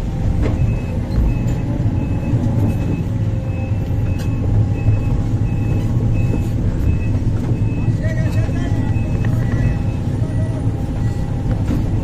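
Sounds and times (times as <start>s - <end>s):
diesel machine rumbling: 0.0s - 12.0s
back-up alarm beeping: 0.6s - 12.0s.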